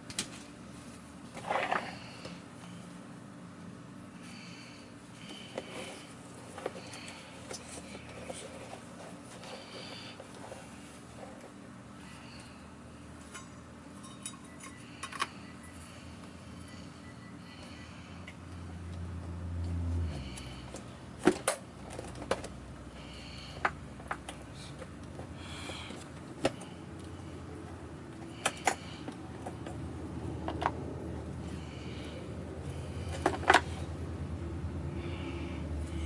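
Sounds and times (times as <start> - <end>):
low hum: 0.6 - 36.0.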